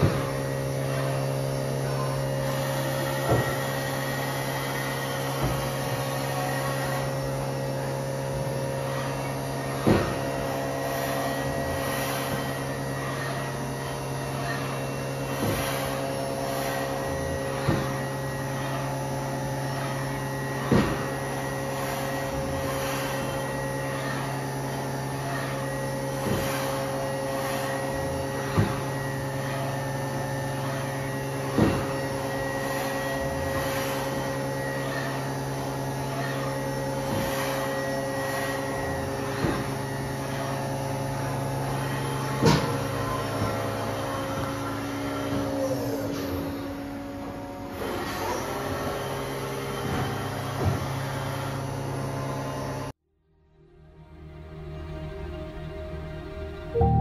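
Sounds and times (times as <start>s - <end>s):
machine hum with constant tones: 0.0s - 57.0s.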